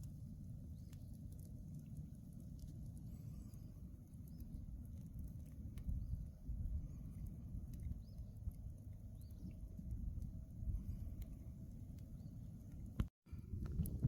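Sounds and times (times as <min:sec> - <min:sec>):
fire crackling and popping: 0:00.0 - 0:14.0
low rumble: 0:00.0 - 0:14.0.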